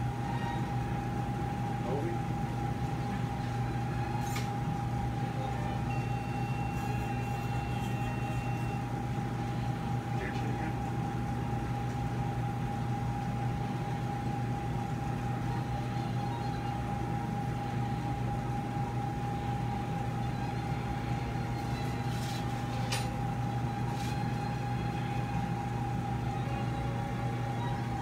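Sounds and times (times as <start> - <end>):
machine hum: 0.0 - 28.0
thin whine: 0.0 - 28.0.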